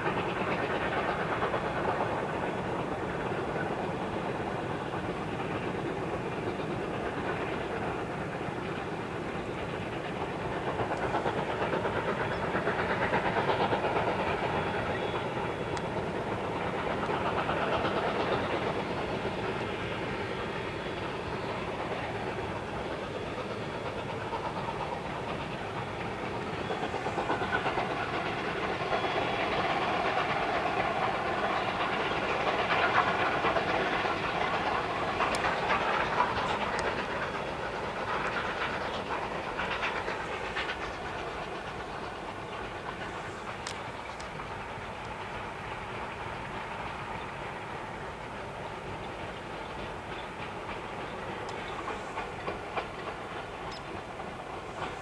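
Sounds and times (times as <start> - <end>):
distant steam locomotive chuffing: 0.0 - 55.0.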